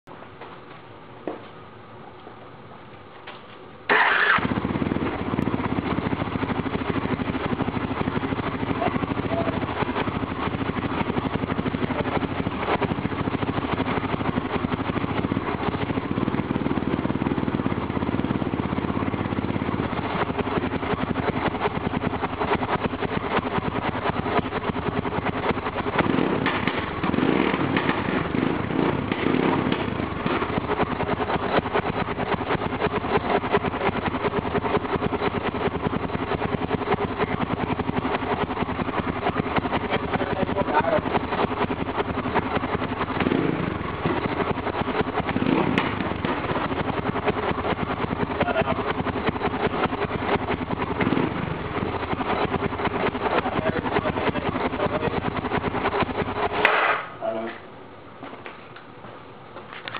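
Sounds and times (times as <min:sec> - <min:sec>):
motorcycle engine running: 0:03.9 - 0:57.5.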